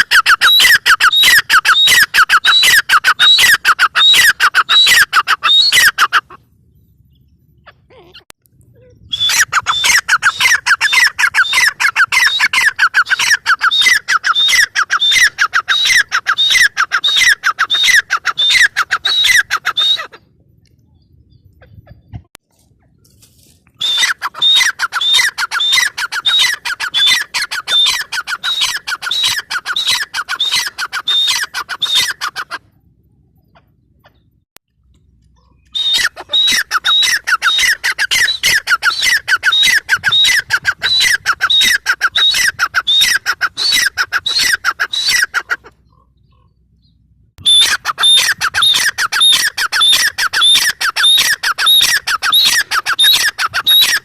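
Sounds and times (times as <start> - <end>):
francolin calling: 0.0 - 8.2, 8.8 - 20.2, 23.7 - 34.3, 35.3 - 54.0.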